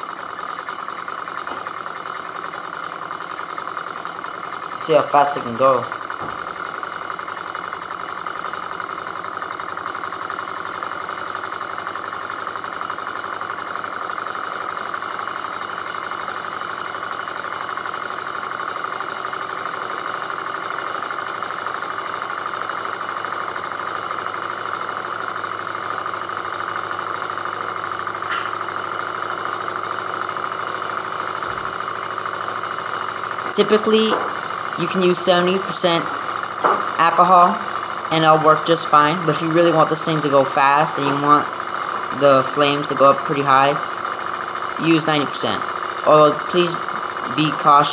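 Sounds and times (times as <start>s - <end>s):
small engine running fast: 0.0s - 47.9s.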